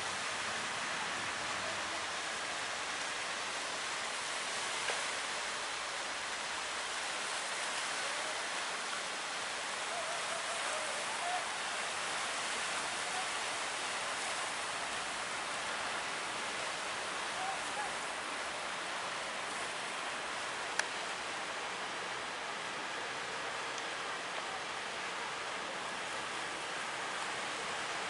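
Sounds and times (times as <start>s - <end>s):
surf and rushing water: 0.0s - 28.0s.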